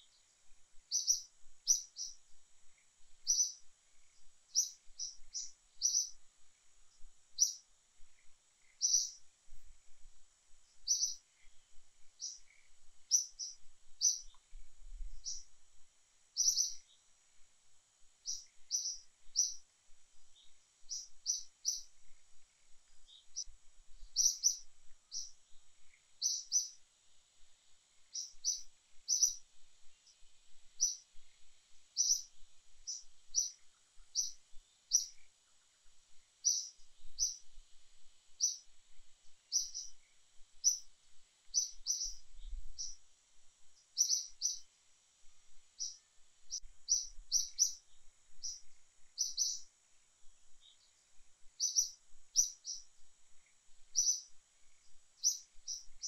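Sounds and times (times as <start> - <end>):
faint steady high hiss: 0.0 - 56.0
small bird chirping: 0.0 - 56.0.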